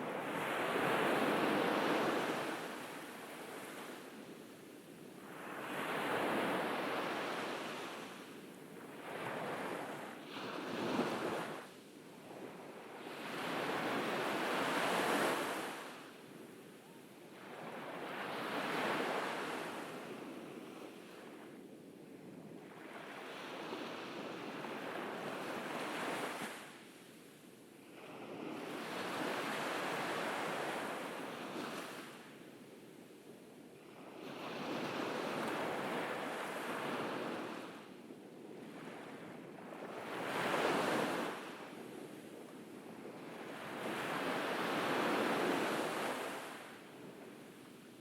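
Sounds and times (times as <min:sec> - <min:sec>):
ocean waves breaking on beach: 0:00.0 - 0:48.0.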